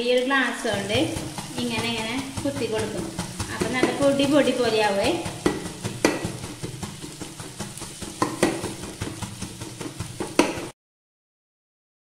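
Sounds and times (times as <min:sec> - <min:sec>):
steel tumbler pounding in frying pan: 0:00.0 - 0:10.8.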